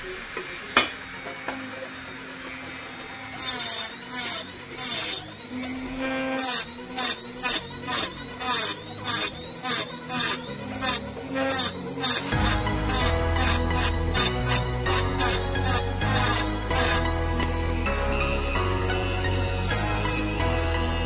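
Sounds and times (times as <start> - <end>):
rotary tool grinding glass bottle: 0.0 - 21.0.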